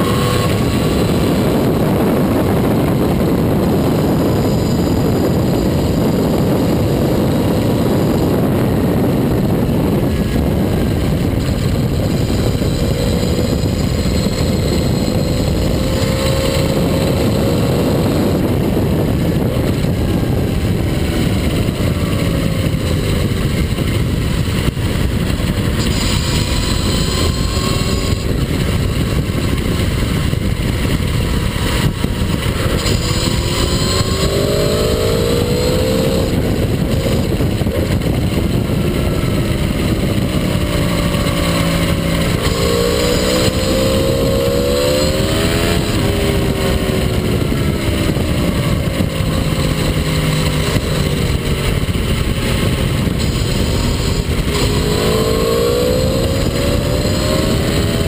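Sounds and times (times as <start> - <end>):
motorcycle engine rising and falling: 0.0 - 58.0
wind and road noise: 0.0 - 58.0.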